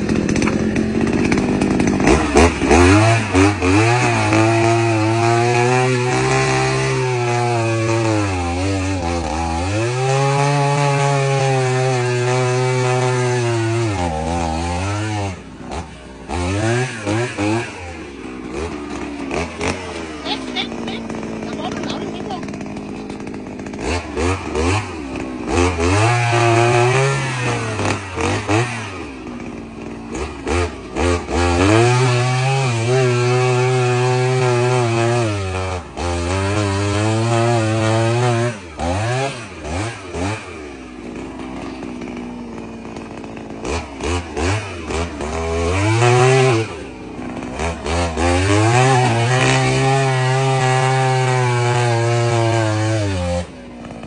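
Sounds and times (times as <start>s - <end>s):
two-stroke earth auger engine revving: 0.0s - 54.0s.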